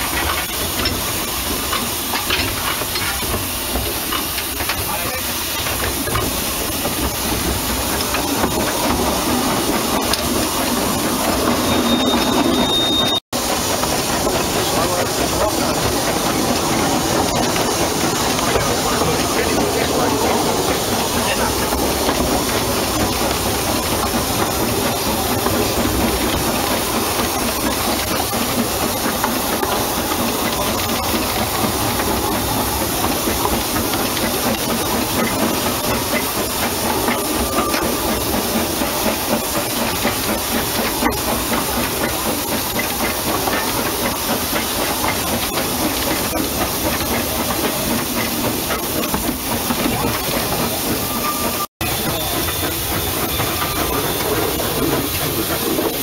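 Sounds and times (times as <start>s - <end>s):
steam locomotive hissing and running: 0.0s - 56.0s.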